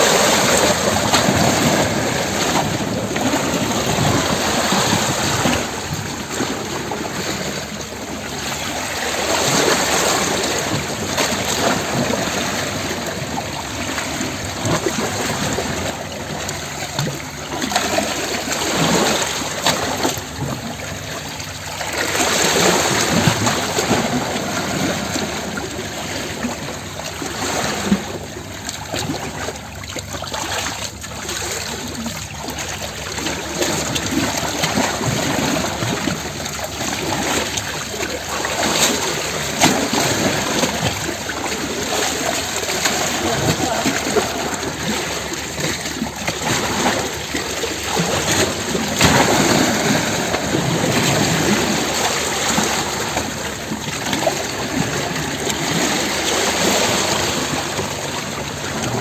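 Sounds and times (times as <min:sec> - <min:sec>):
sea waves washing against rocks: 0:00.0 - 0:59.0.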